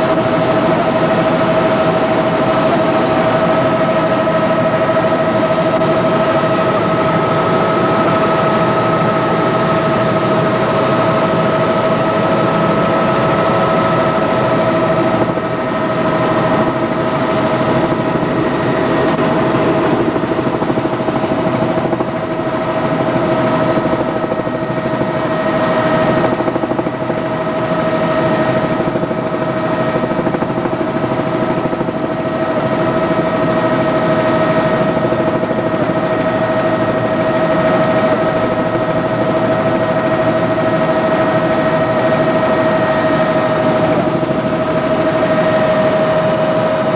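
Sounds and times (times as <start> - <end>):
helicopter rotor chopping: 0.0 - 46.9
helicopter whine: 0.0 - 46.9.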